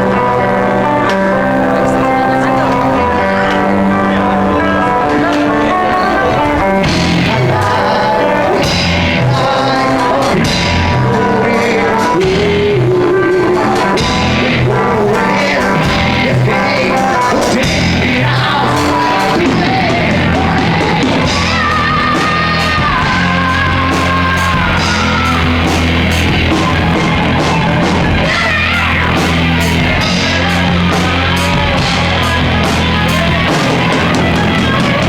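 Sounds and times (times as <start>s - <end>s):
loud rock song with singing: 1.4s - 3.3s, 4.8s - 35.0s.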